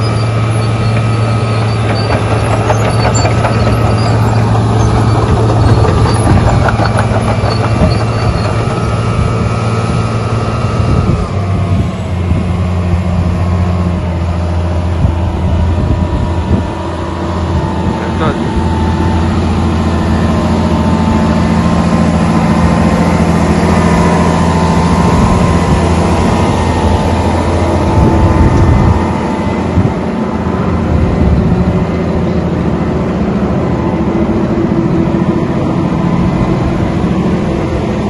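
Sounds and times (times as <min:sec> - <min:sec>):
diesel engine running: 0:00.0 - 0:38.0
whining tone: 0:00.0 - 0:38.0.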